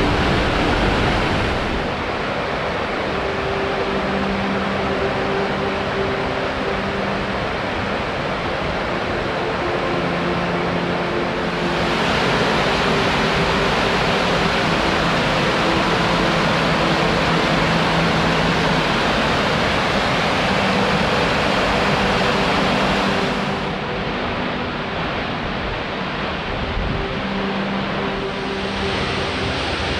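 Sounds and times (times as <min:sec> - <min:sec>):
creek water over rocks: 0:00.0 - 0:29.9.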